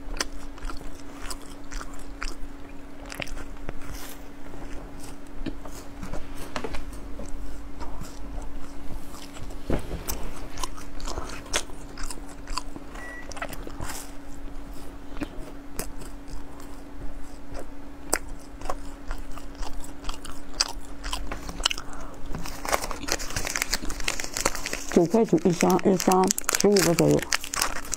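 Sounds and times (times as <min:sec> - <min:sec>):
crunchy chewing of snack bar: 0:00.0 - 0:06.0, 0:06.8 - 0:27.9
faint low hum: 0:00.0 - 0:27.9.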